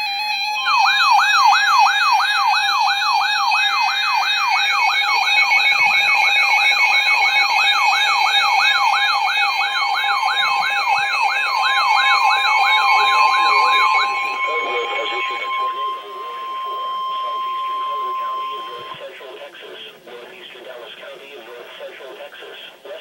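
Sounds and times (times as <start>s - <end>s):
electronic siren yelp: 0.0s - 19.1s
steady electronic tones: 0.0s - 20.8s.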